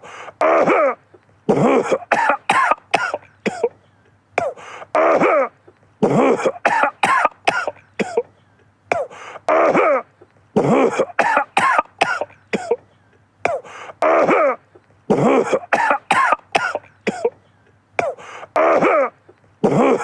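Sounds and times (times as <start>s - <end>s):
man coughing: 0.0s - 20.0s.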